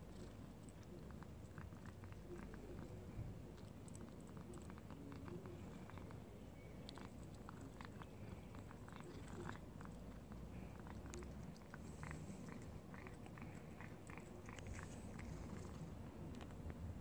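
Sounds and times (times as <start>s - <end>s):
cat chewing food: 0.0s - 17.0s.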